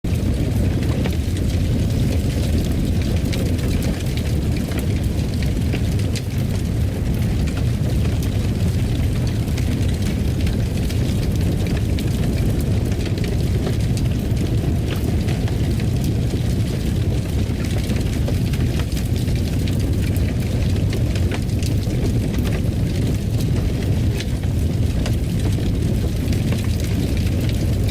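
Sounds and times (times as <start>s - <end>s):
fire crackling in fireplace: 0.0s - 27.9s.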